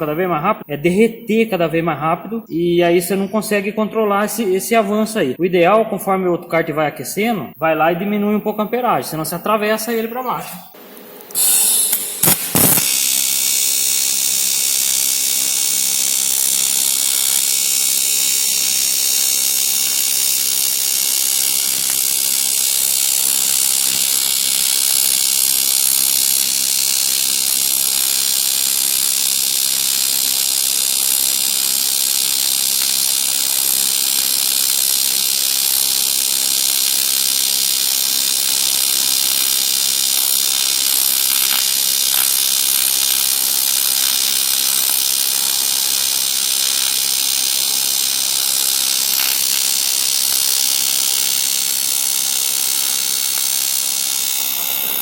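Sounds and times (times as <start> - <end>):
welding arc buzzing hiss: 8.0 - 55.0.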